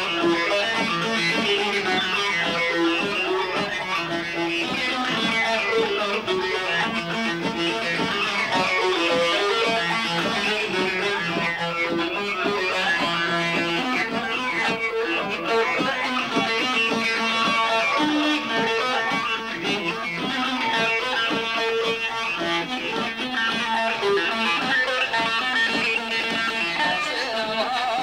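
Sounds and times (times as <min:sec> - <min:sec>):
plucked string instrument music: 0:00.0 - 0:28.0.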